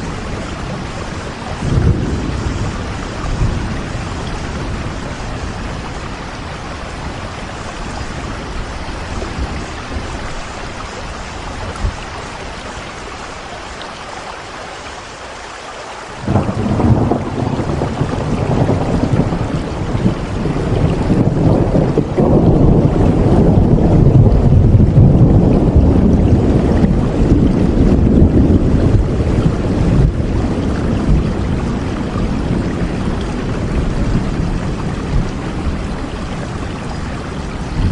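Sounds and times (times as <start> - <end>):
thunder rumbling: 0.0 - 13.5, 16.2 - 37.9
steady rain: 0.0 - 37.9.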